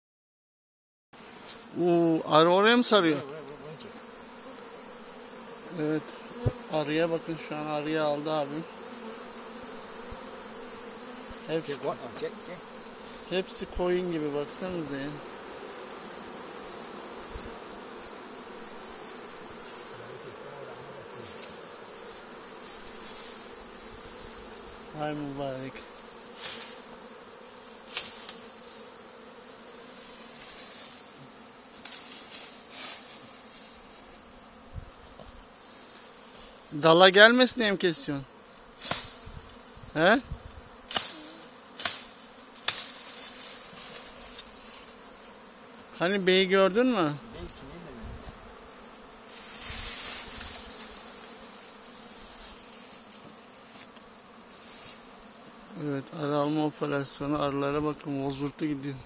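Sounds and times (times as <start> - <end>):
bee swarm buzzing: 1.2 - 59.0.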